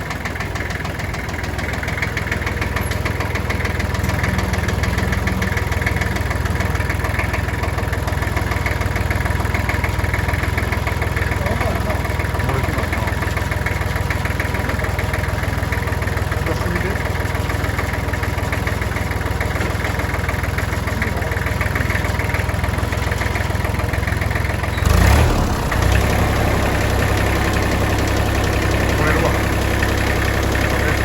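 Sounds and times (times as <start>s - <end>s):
tractor engine idling: 0.0s - 31.0s.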